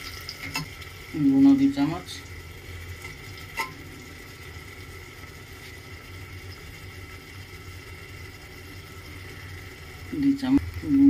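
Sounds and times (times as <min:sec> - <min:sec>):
food sizzling in pot: 0:00.0 - 0:11.0
steady low hum: 0:00.5 - 0:11.0.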